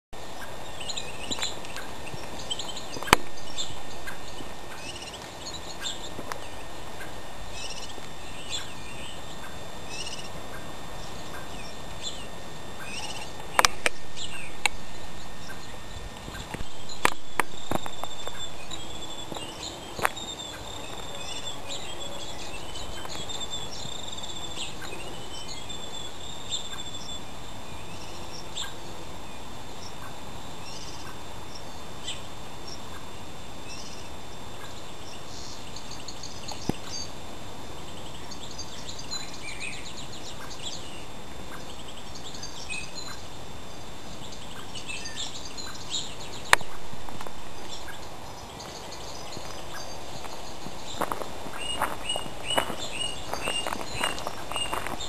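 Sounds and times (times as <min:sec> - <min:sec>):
bird warbling song: 0:00.2 - 0:37.2, 0:37.8 - 0:43.3, 0:44.1 - 0:55.0
birds chirping: 0:00.2 - 0:55.0.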